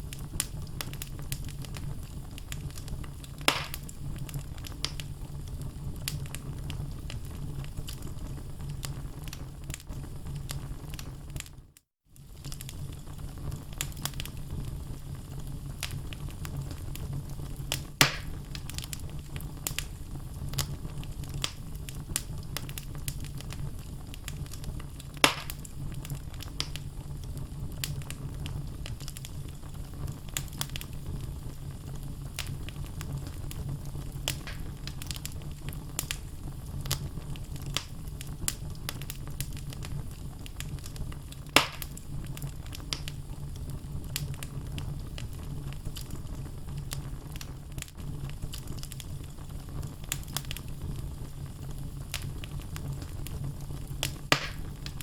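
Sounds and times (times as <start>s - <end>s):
loud fire pops: 0.0s - 11.6s, 12.2s - 55.0s
logs crackling in a fireplace: 0.0s - 55.0s
low fire rumble: 0.0s - 55.0s.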